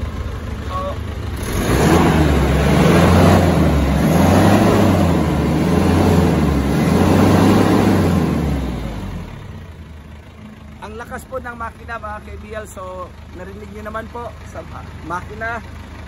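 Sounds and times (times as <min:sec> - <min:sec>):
diesel engine revving: 0:00.0 - 0:16.0.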